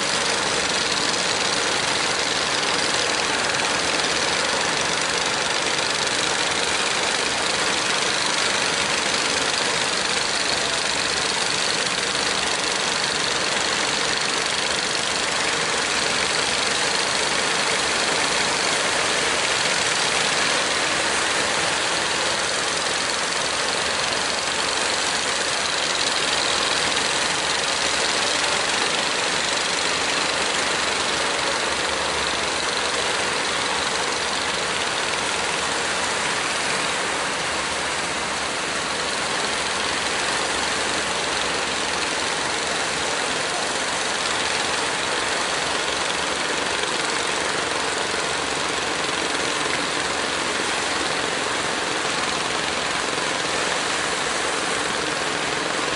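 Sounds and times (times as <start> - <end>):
boat diesel engines running: 0.0 - 55.9.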